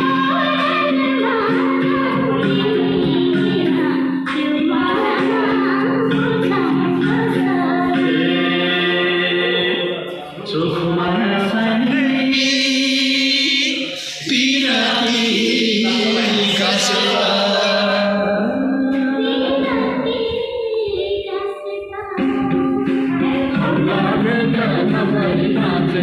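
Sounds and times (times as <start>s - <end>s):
person singing a song: 0.0s - 26.0s.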